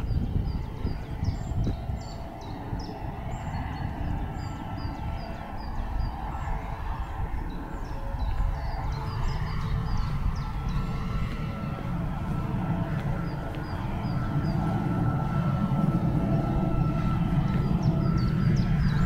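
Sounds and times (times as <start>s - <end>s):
songbirds chirping: 0.0s - 19.0s
steady low rumble: 0.0s - 19.0s.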